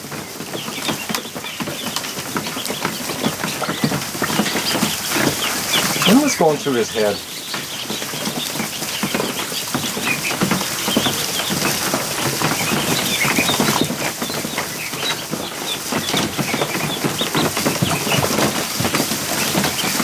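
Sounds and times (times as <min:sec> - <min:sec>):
ducklings peeping: 0:00.0 - 0:20.0
ducklings splashing in water: 0:00.0 - 0:20.0.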